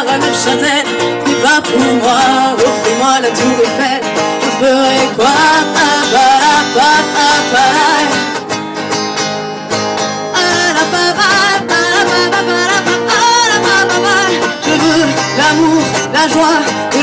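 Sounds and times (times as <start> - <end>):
person singing: 0.0 - 8.4, 10.3 - 17.0
strummed acoustic guitar: 0.0 - 17.0.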